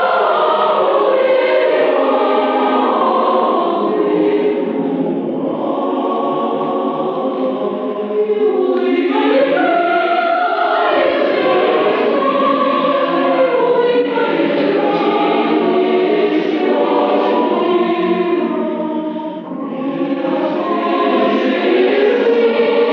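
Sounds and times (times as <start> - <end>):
choir singing: 0.0 - 22.9.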